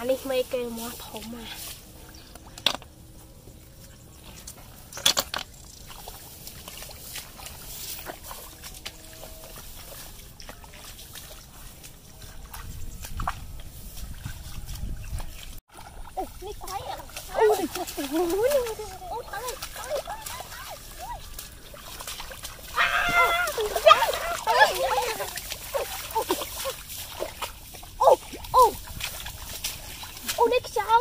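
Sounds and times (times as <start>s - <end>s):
sloshing in muddy water: 0.0s - 31.0s.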